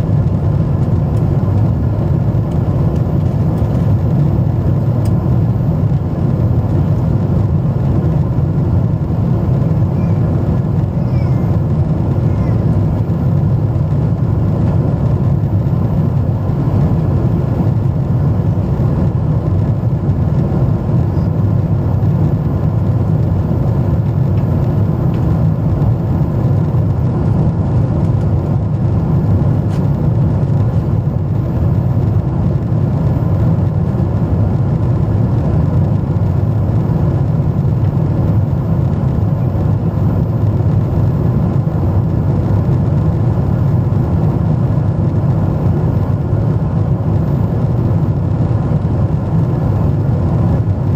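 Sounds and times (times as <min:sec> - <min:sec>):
jet engine drone in cabin: 0:00.0 - 0:50.9.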